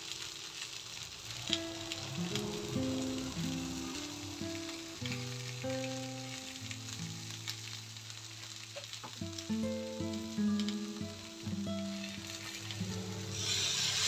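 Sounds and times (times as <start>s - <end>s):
food sizzling in a hot pan: 0.0s - 14.0s
soft background music: 1.3s - 8.2s, 9.2s - 14.0s.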